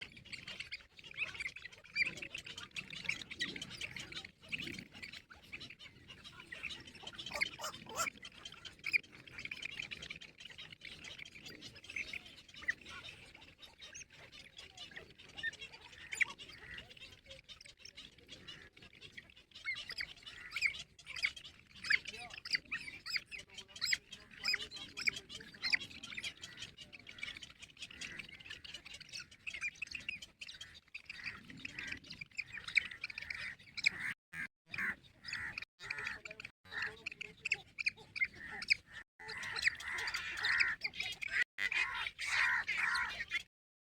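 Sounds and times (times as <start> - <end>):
birds chirping and squawking: 0.0 - 43.5.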